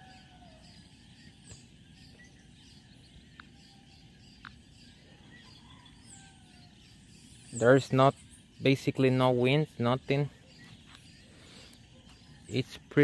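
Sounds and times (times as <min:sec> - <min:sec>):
faint bird chirps: 0:00.0 - 0:13.0
low outdoor background: 0:00.0 - 0:13.0.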